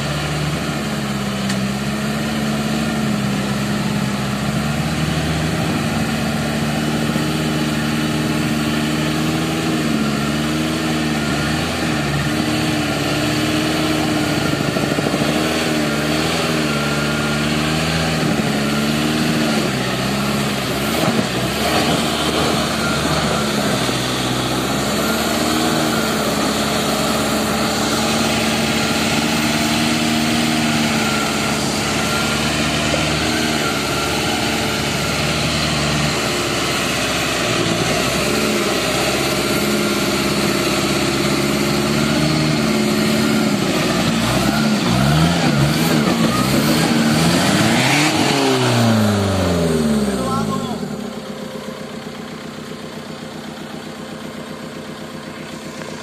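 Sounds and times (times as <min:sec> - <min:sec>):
off-road engine at low revs: 0:00.0 - 0:56.0.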